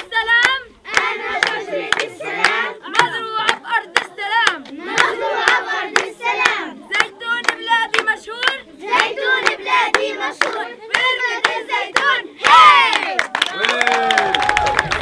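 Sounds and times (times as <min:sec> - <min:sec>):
children chanting a song: 0:00.0 - 0:13.3
hand claps: 0:00.0 - 0:15.0.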